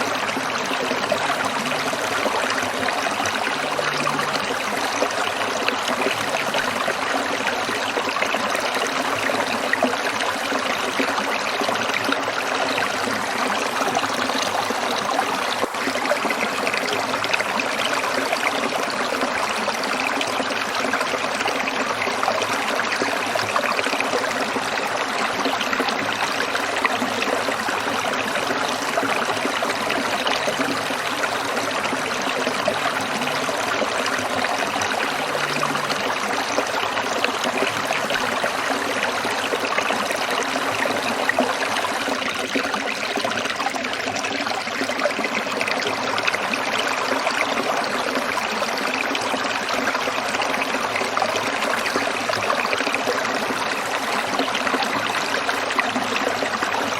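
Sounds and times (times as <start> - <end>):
stream trickling over stones: 0.0 - 56.9.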